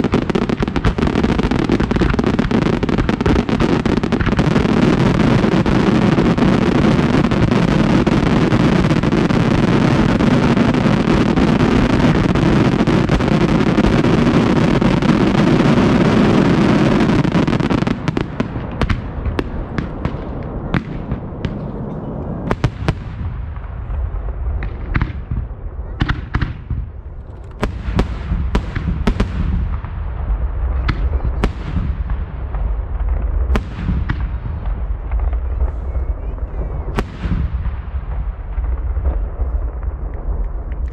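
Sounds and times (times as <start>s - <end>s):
fireworks volley of bangs: 0.0s - 40.9s.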